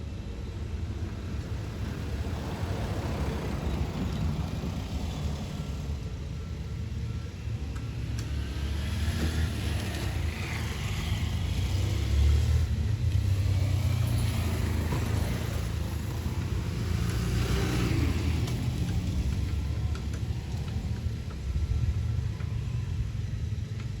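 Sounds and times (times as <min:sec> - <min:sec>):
motor vehicle rumbling: 0:00.0 - 0:24.0.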